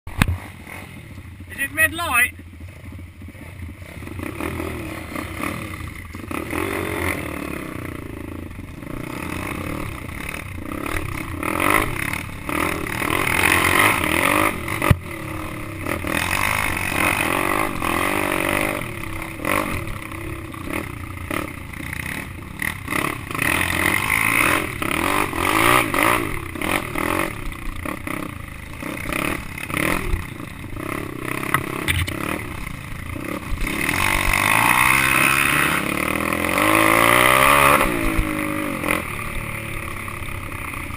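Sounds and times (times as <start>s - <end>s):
pit bike engine revving: 0.1s - 40.9s.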